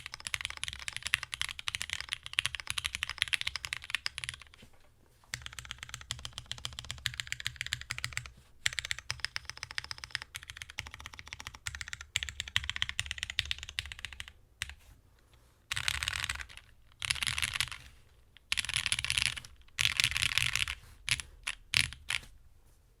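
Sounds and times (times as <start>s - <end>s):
mechanical keyboard typing: 0.0s - 4.6s, 5.3s - 14.8s, 15.7s - 22.2s.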